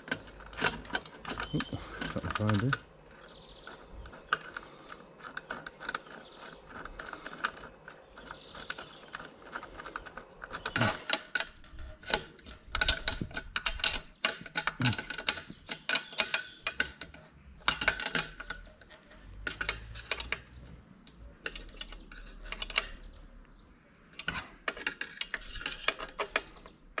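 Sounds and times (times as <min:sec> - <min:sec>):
metallic clicks of bolt and tools: 0:00.0 - 0:27.0.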